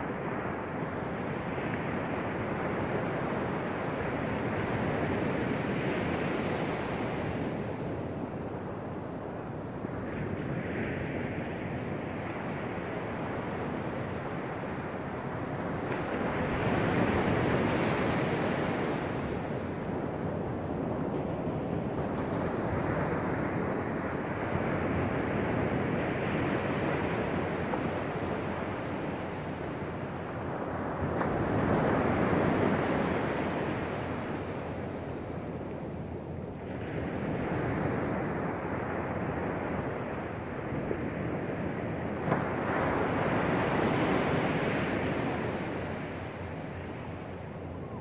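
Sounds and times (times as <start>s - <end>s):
waves washing up a beach: 0.0s - 48.0s.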